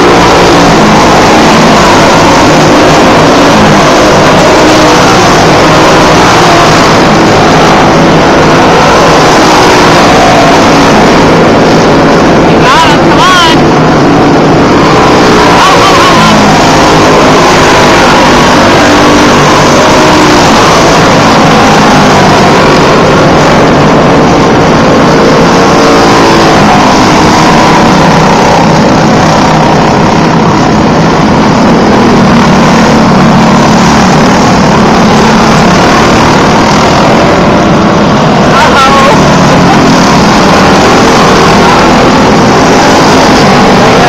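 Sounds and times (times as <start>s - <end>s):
kart engines racing: 0.0s - 44.0s.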